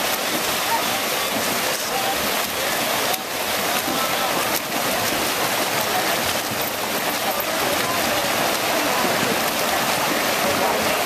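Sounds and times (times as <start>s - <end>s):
swimmers splashing: 0.0s - 11.0s.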